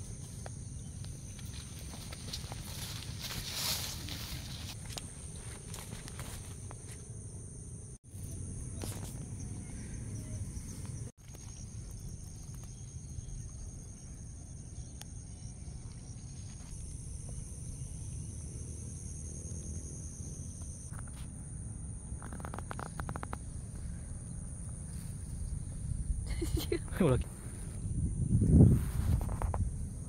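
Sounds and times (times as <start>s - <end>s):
high-pitched insect droning: 0.0s - 30.0s.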